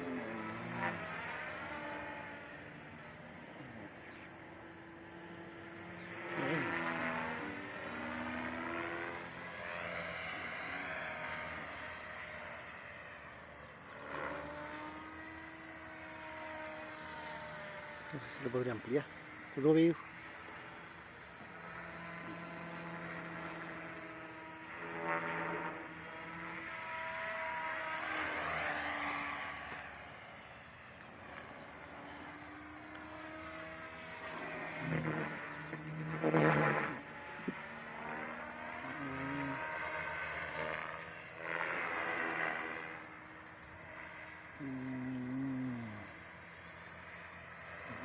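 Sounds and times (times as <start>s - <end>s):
motor and gear whine: 0.0s - 48.0s
rotor blades rushing: 0.0s - 48.0s.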